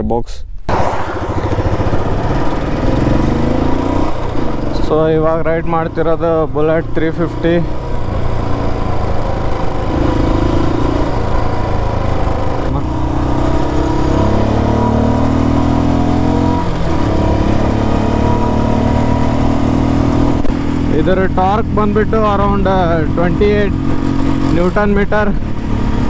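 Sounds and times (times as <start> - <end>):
motorcycle engine accelerating: 0.7 - 26.0.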